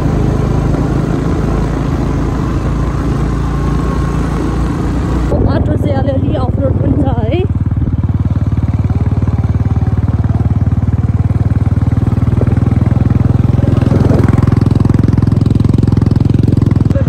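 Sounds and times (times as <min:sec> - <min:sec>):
vehicle engine throbbing: 0:00.0 - 0:17.0.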